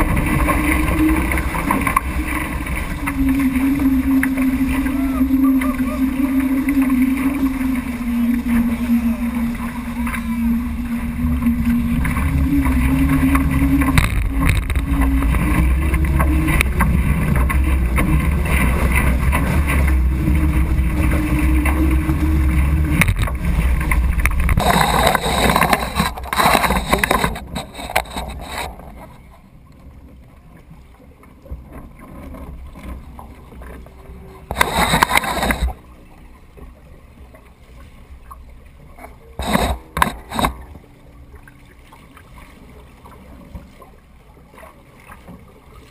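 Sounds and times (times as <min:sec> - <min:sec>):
water rushing and splashing: 0:00.0 - 0:45.9.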